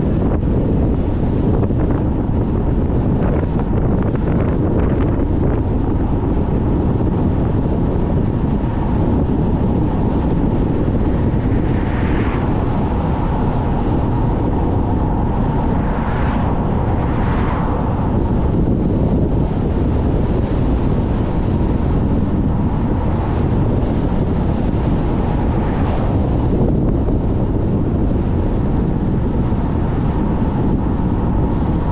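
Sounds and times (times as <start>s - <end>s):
heavy wind: 0.0s - 31.9s
road noise: 0.0s - 31.9s.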